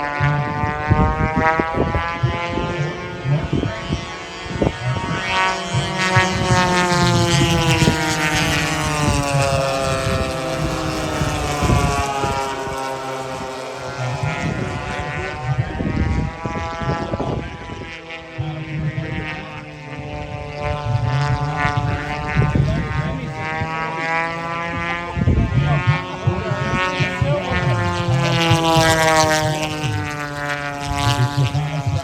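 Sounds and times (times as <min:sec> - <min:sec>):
model airplane engines droning: 0:00.0 - 0:32.0.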